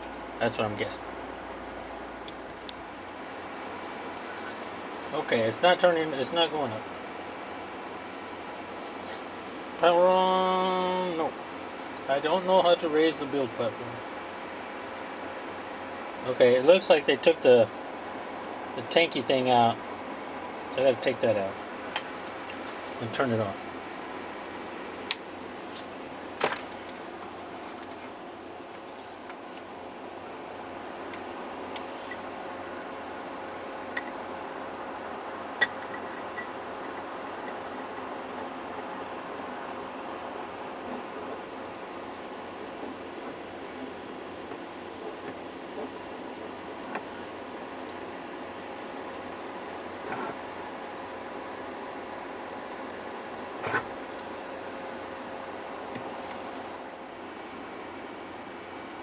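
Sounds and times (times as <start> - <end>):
fan-like hum: 0.0 - 59.0
steady background hiss: 0.0 - 59.0.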